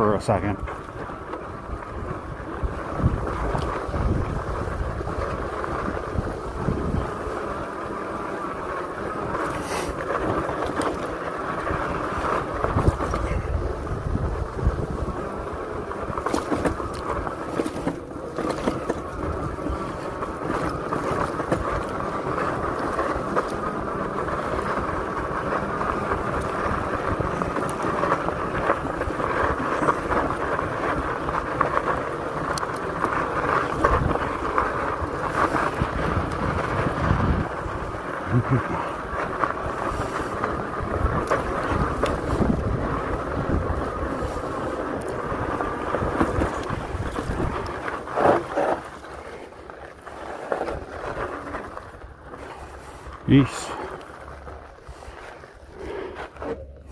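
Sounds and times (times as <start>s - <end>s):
bike tyres rolling on sand: 0.0s - 56.9s
wind rumbling on microphone: 0.0s - 56.9s.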